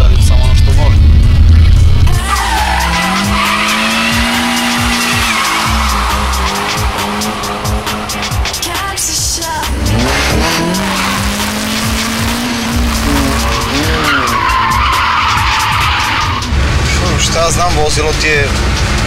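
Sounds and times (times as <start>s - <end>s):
car engine revving: 0.0s - 19.0s
tyres squealing: 2.1s - 17.8s.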